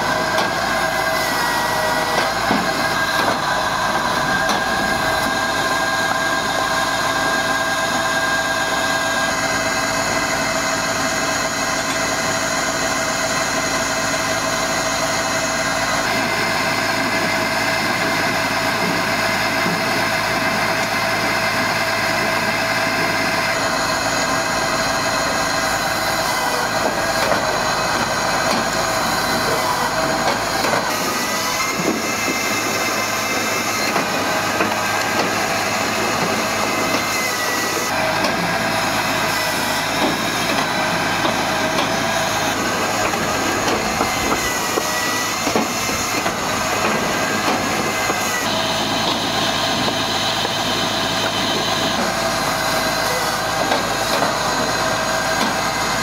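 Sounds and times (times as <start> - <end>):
firewood processor machine whine: 0.0 - 56.0.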